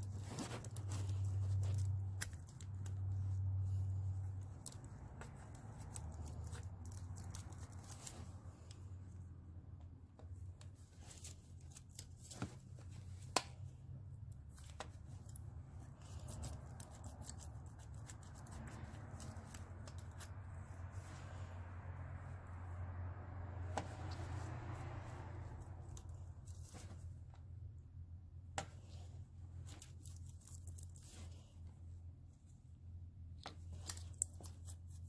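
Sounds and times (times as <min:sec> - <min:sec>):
handling clicks and rustles: 0:00.0 - 0:22.8, 0:25.1 - 0:35.0
steady low hum: 0:00.0 - 0:35.0.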